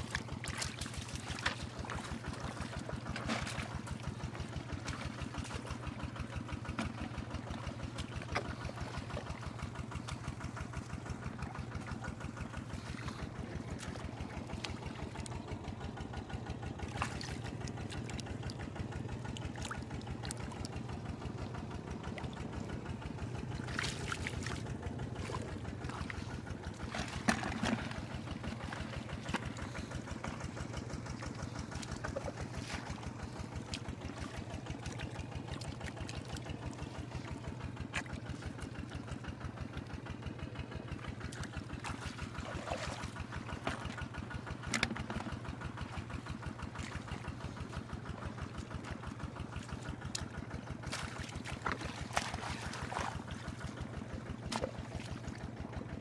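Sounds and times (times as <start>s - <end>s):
hands splashing mud and water: 0.0s - 56.0s
small engine running: 0.0s - 56.0s.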